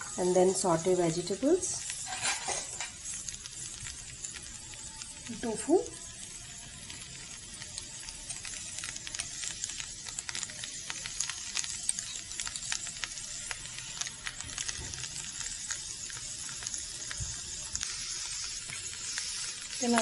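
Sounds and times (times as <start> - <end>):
vegetables sizzling on hot plate: 0.0 - 20.0.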